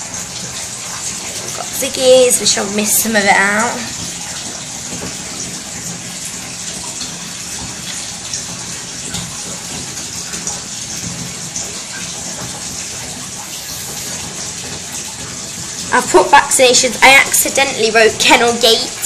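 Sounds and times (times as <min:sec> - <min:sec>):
water gushing from bath tap: 0:00.0 - 0:19.0.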